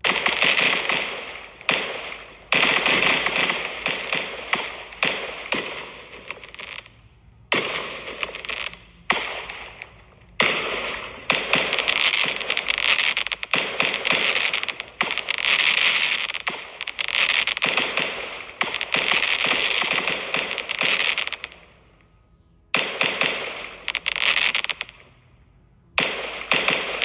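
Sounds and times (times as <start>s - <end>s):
fireworks bursting with bangs: 0.0s - 21.8s, 22.8s - 25.1s, 26.0s - 27.0s
fireworks crackling: 0.0s - 22.0s, 22.8s - 25.2s, 26.0s - 27.0s.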